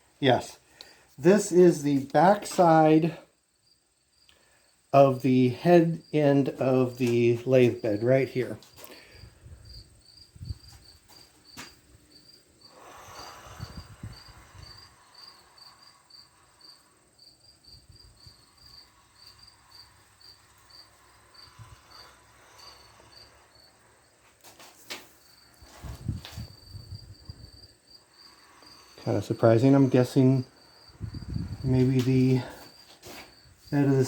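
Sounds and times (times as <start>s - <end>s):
cricket chirping: 0.0s - 34.0s.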